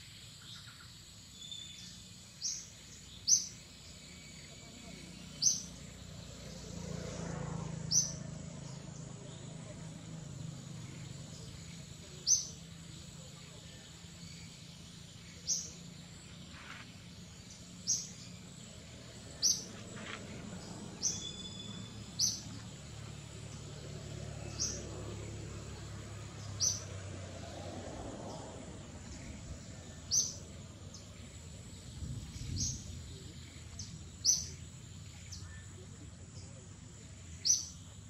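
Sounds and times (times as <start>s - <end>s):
bird chirping: 0.0s - 7.2s, 7.8s - 27.0s, 28.2s - 38.0s
insect drone: 0.0s - 38.0s.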